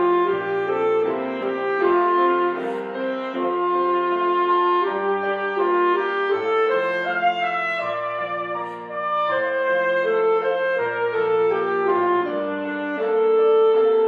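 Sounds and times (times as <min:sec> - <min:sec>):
piano accompaniment: 0:00.0 - 0:14.0
saxophone melody: 0:00.0 - 0:14.0.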